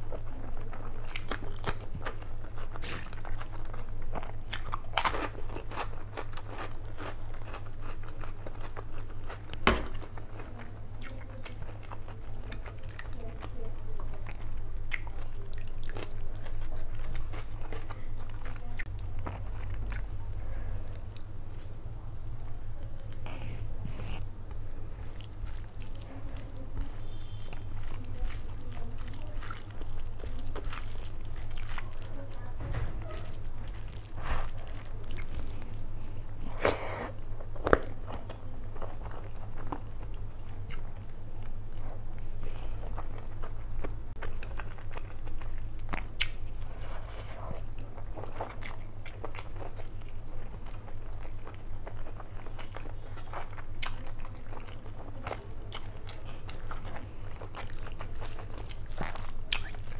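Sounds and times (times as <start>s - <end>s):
chewing and lip smacks: 0.1s - 10.4s, 11.0s - 20.2s, 24.5s - 42.2s, 42.8s - 59.9s.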